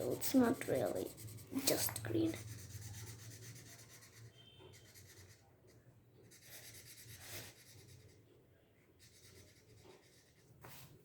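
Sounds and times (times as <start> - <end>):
marker scratching on paper: 0.0 - 8.2, 9.0 - 10.9.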